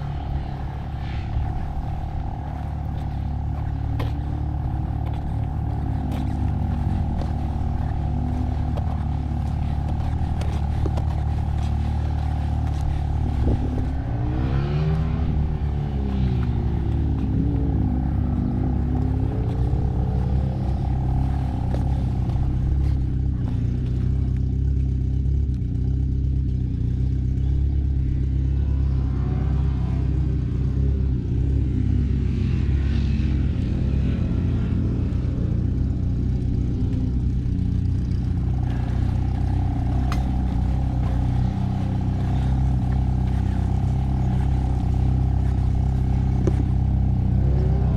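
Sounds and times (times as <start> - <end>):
pit bike engine revving: 0.0 - 47.9
steady low drone: 0.0 - 47.9.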